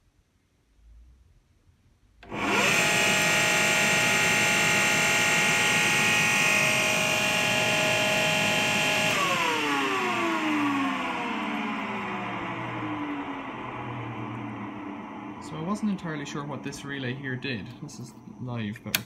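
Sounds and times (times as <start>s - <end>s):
tumble dryer motor whining: 2.2s - 18.1s.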